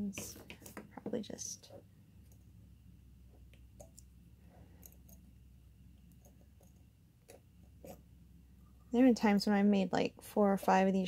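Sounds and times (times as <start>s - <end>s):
low hum: 1.3s - 10.2s.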